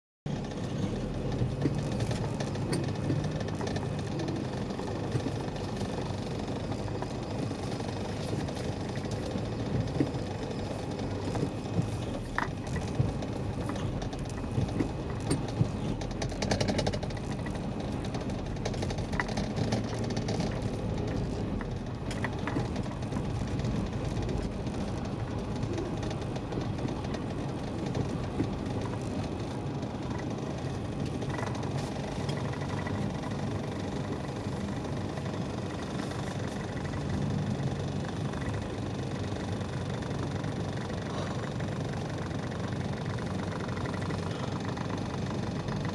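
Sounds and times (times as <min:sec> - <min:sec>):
car engine and road noise: 0:00.3 - 0:45.9.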